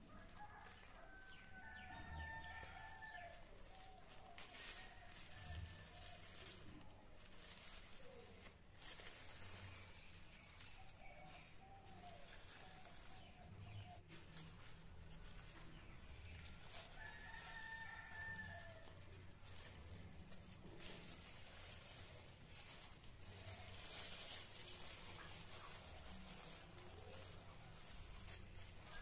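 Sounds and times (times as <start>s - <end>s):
plastic bag crinkling: 0.0s - 29.0s.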